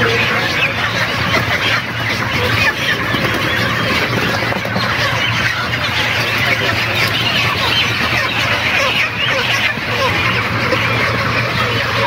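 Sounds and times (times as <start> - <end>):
chickens squawking and clucking: 0.0 - 12.0.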